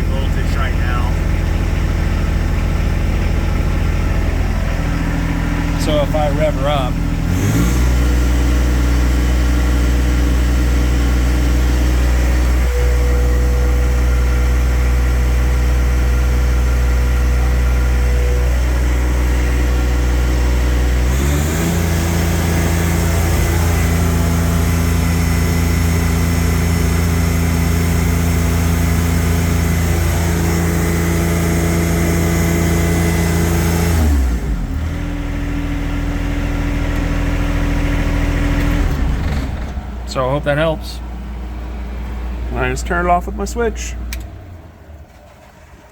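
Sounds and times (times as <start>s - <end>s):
diesel engine idling and revving: 0.0s - 45.9s.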